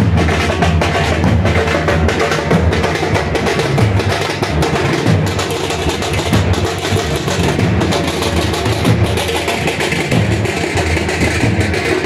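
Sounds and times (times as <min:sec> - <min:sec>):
deep continuous drum beat: 0:00.0 - 0:12.0
drum group playing fast: 0:00.0 - 0:12.0.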